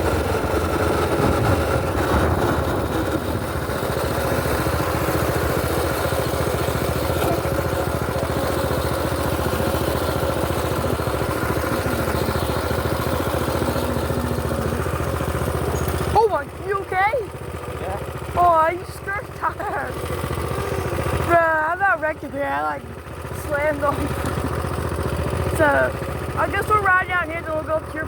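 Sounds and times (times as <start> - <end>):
small engine running steadily: 0.0 - 28.0.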